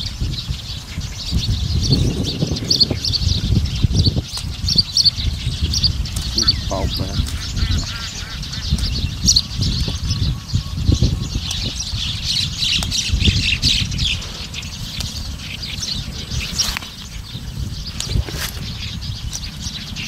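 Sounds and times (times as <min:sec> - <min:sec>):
birds squawking and chattering: 0:00.0 - 0:20.0
steady low rumble: 0:00.0 - 0:20.0.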